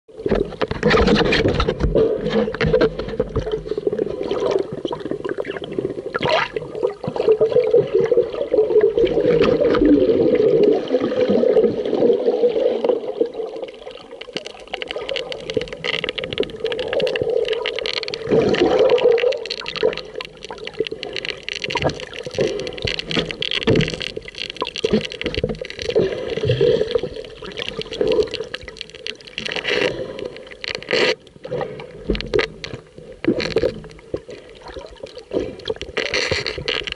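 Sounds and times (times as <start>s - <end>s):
muffled underwater rushing water: 0.1s - 36.9s.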